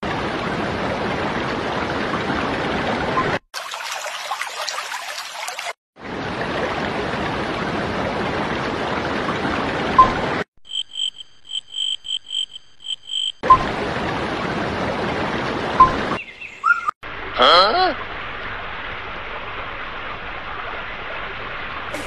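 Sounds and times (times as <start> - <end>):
running water rushing: 0.0 - 10.5, 13.4 - 16.4, 17.1 - 22.0.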